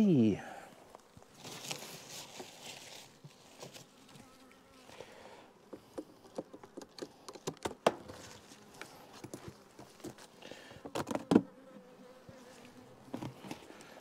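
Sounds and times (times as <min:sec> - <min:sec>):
honeybees buzzing: 0:01.0 - 0:14.0.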